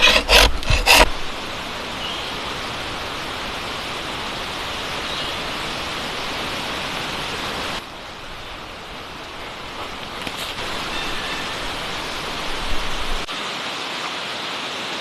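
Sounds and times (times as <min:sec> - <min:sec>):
steady rain: 0:01.1 - 0:15.0.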